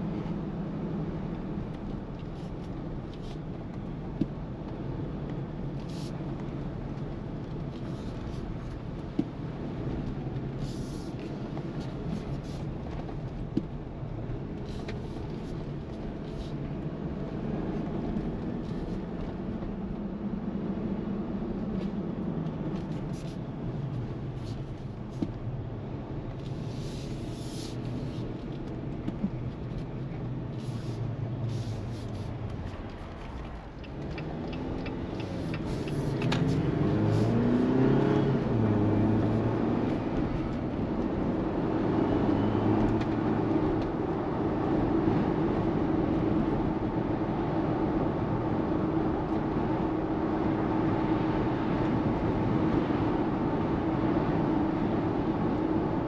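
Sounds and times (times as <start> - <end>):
car engine and road hum: 0.0 - 56.0.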